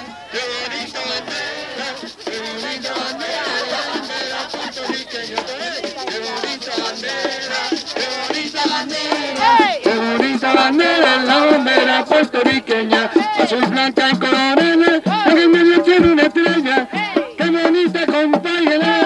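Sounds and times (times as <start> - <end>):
group singing: 0.0 - 19.0
frame drums beaten: 1.1 - 19.0.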